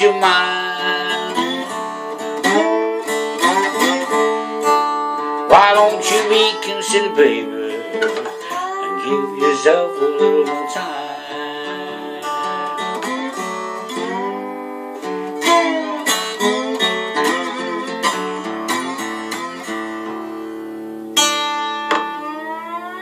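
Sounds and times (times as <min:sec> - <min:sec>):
slide guitar: 0:00.0 - 0:23.0.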